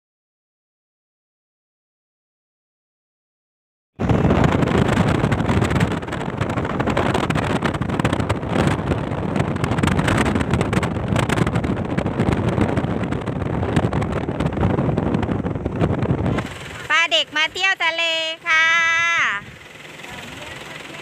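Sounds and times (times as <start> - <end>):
wind buffeting microphone: 4.0 - 21.0.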